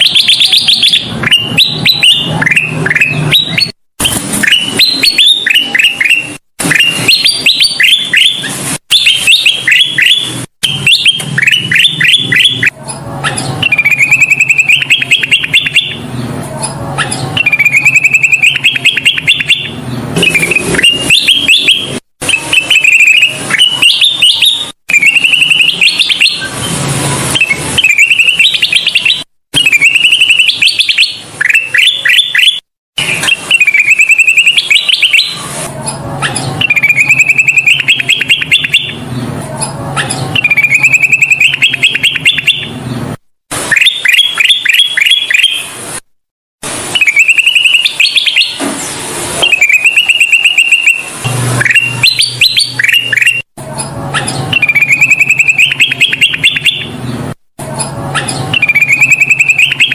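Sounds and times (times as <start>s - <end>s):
bird chirping song: 0.0s - 43.0s, 43.7s - 45.8s, 46.9s - 53.5s, 54.1s - 57.2s, 57.8s - 59.9s.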